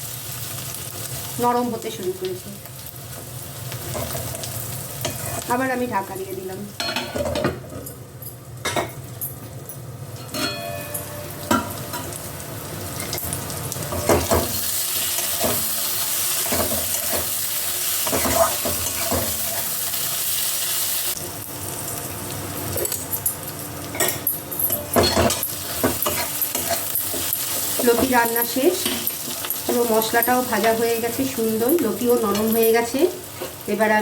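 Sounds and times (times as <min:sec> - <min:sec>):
food sizzling in a pan: 0:00.0 - 0:34.0.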